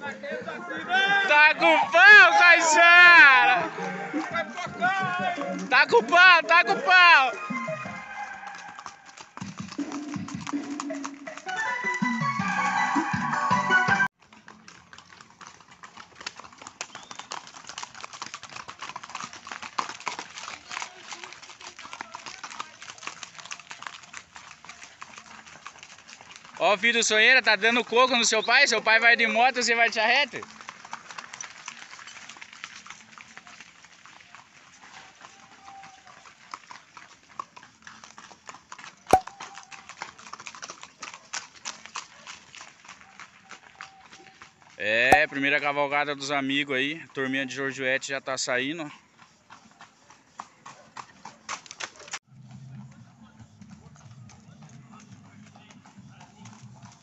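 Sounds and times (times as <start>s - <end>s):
horse hoofbeats on dirt road: 0.0s - 57.0s.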